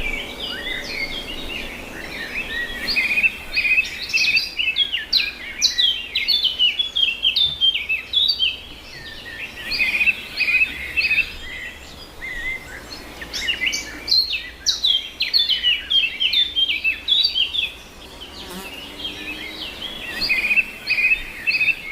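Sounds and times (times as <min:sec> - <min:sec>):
small birds chirping and twittering: 0:00.0 - 0:21.9.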